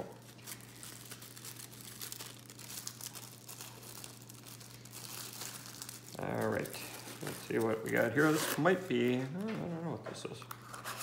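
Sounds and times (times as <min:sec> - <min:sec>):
plastic bags crinkling: 0:00.0 - 0:09.5.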